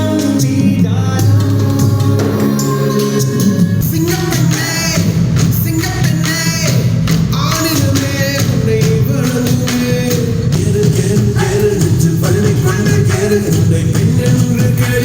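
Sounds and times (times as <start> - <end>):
song with singing and beat: 0.0 - 15.0.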